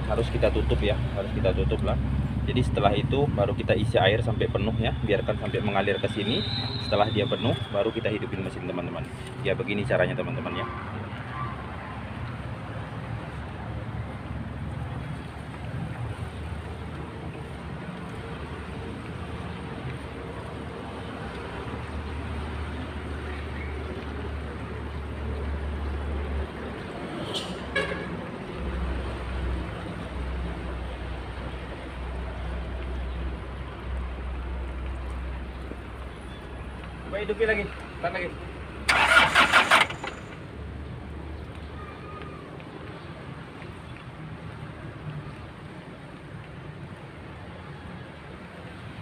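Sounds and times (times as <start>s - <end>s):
water pouring and splashing: 0.0s - 49.0s.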